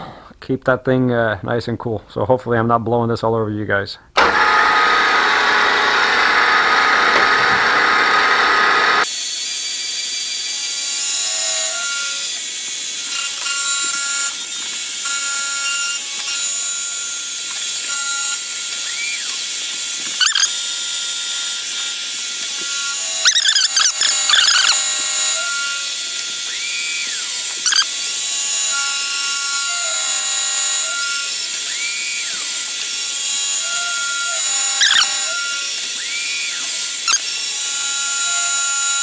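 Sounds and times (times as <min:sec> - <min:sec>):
milling machine cutting metal: 0:04.2 - 0:39.0.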